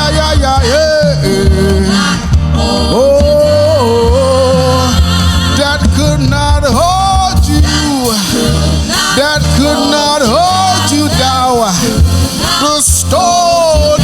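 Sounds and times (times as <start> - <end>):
steady bass line: 0.0 - 14.0
worship band music: 0.0 - 14.0.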